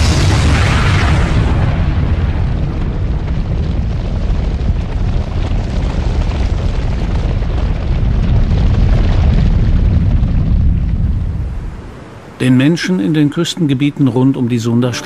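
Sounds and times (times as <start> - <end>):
volcanic eruption rumble: 0.0 - 13.9.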